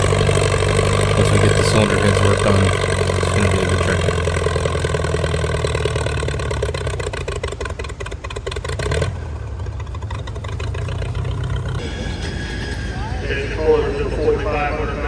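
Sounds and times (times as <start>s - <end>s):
tractor engine throbbing under load: 0.0s - 15.0s.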